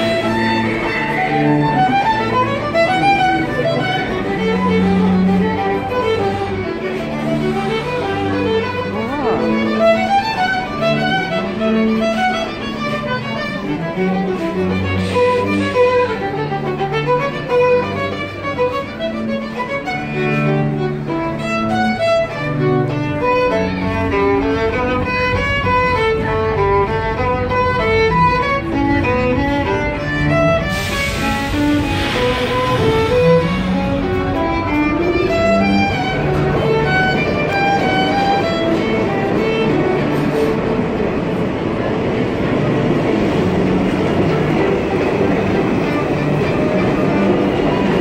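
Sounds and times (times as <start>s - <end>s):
low string instrument: 0.0s - 48.0s
violin melody: 0.0s - 48.0s.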